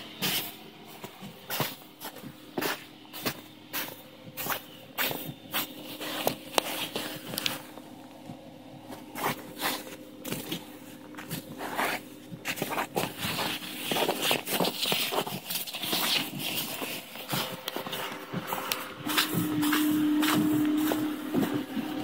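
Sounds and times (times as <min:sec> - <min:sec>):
car engine idling: 0:00.0 - 0:22.0
footsteps crunching in snow: 0:00.0 - 0:22.0.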